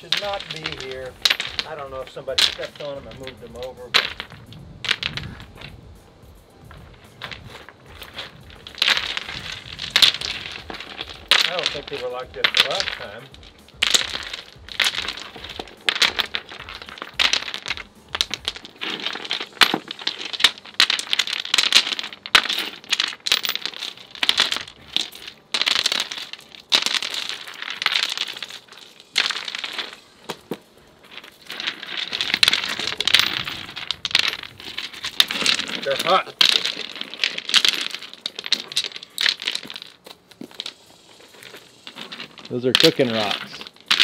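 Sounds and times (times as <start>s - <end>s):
rocks clattering together: 0.0s - 6.0s, 6.6s - 44.0s
rocks scraping on concrete: 0.0s - 44.0s.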